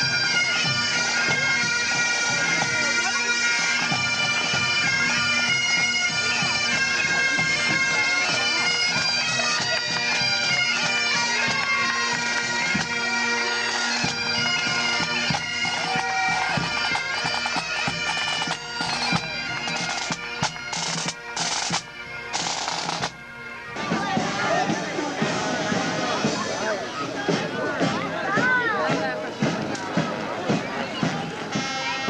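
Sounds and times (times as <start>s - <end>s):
bagpipes playing: 0.0s - 32.0s.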